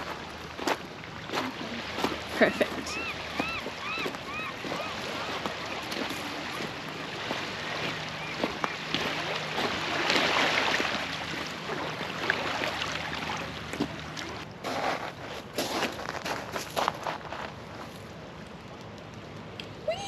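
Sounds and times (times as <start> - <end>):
small waves washing over pebbles: 0.0 - 18.0.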